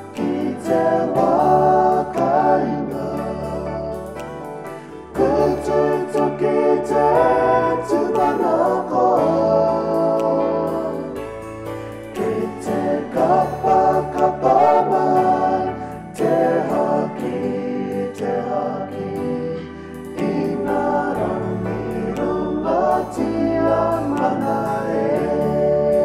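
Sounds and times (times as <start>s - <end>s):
children's choir singing: 0.0s - 26.0s
instrumental backing with beat: 0.0s - 26.0s.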